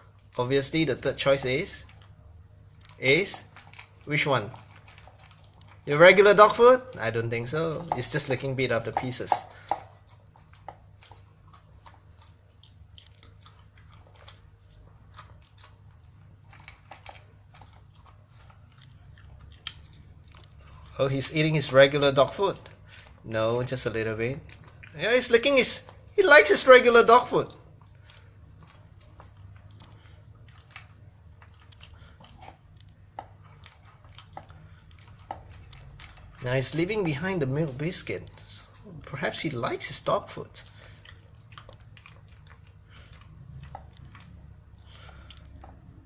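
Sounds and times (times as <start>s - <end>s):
dog licking and chewing food: 0.0s - 46.0s
steady low hum: 0.0s - 46.0s.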